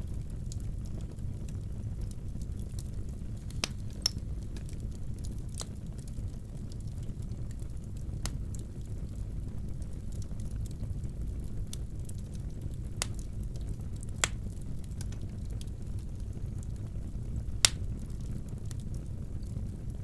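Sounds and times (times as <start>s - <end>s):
fire low rumble: 0.0s - 20.0s
logs crackling and popping: 0.0s - 20.0s.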